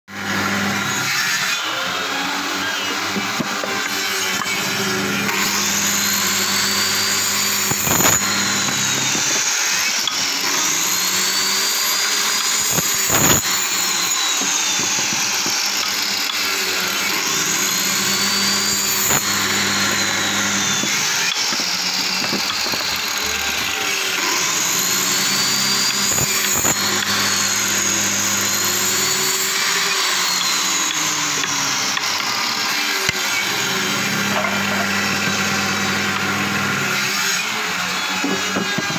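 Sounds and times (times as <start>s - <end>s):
circular saw cutting wood: 0.1s - 38.9s.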